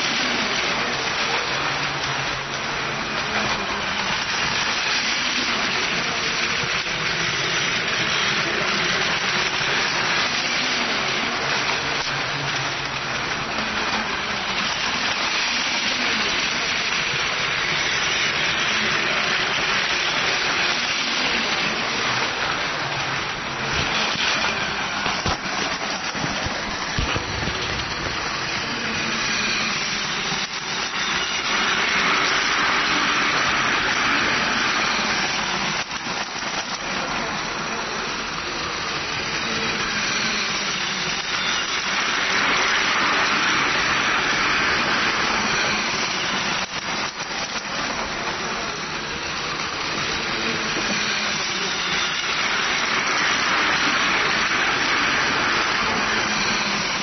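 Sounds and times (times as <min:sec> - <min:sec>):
toy train motor whirring: 0:00.0 - 0:57.0
toy train wheels rattling: 0:00.0 - 0:57.0.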